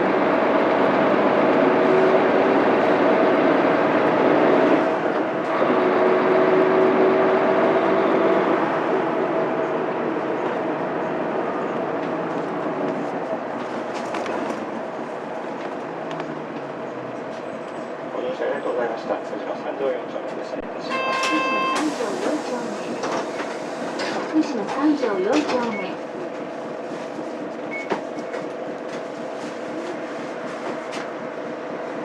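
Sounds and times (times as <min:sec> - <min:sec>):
bus diesel engine hum: 0:00.0 - 0:32.0
road noise: 0:00.0 - 0:32.0.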